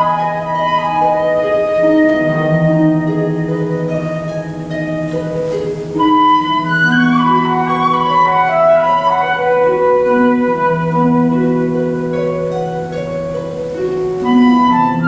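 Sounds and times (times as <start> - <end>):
flute melody: 0.0 - 15.0
low harp accompaniment: 0.0 - 15.0.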